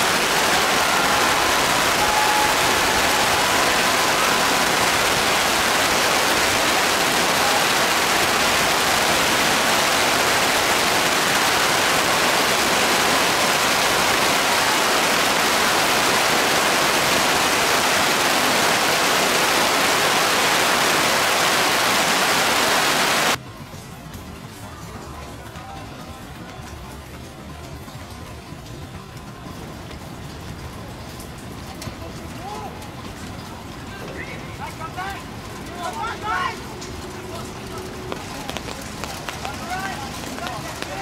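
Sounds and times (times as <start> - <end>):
heavy rain hiss: 0.0 - 23.4, 28.5 - 41.0.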